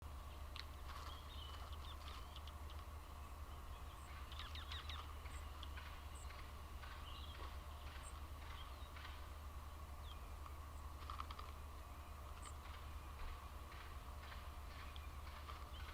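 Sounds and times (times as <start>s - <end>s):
birds chirping: 0.0s - 15.9s
steady low hum: 0.0s - 15.9s.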